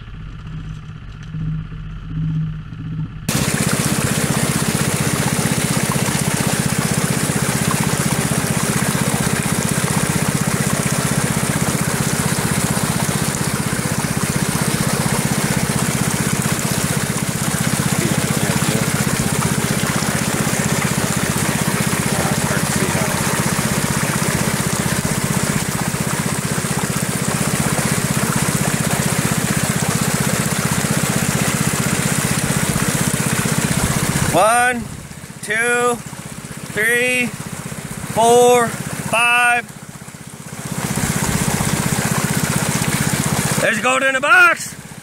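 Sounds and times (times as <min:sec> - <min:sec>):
water pump engine droning: 0:00.0 - 0:45.0
water rushing down a sluice: 0:03.3 - 0:45.0.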